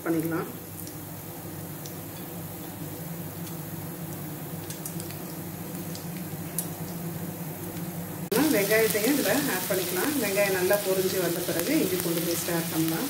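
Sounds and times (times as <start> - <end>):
spices sizzling in hot oil: 0.0 - 13.0
steady low hum: 0.0 - 13.0.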